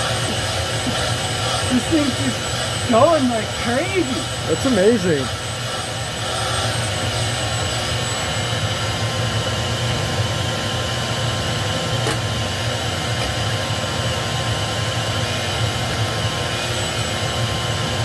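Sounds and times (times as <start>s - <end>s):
shop vacuum sucking soil: 0.0s - 18.0s.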